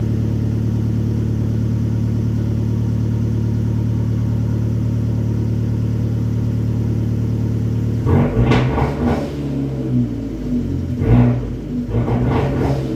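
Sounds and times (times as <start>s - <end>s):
car engine idling and revving: 0.0s - 12.9s.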